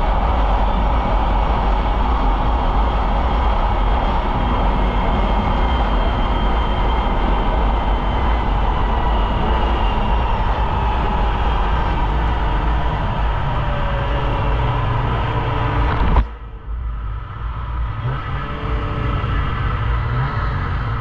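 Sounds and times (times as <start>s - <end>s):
faint high whine: 0.0s - 21.0s
snowmobile engine and track drone: 0.0s - 21.0s.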